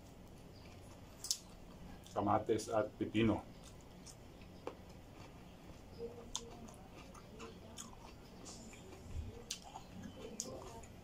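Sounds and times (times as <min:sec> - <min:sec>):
faint chewing: 0:00.0 - 0:02.2, 0:03.4 - 0:11.0.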